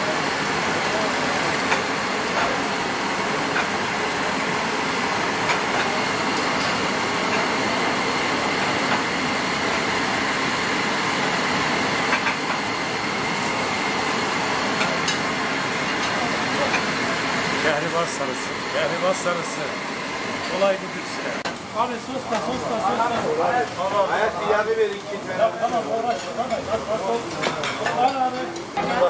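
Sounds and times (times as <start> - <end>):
gas flames rushing: 0.0 - 27.6.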